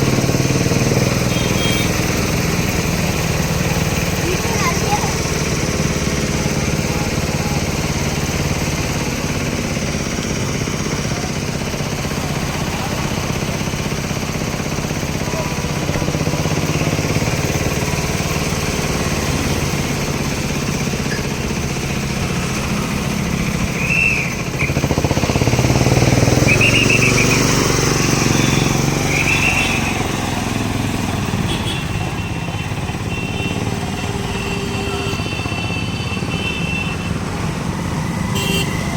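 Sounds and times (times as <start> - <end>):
motorcycle engines passing: 0.0 - 38.9
road traffic: 0.0 - 38.9.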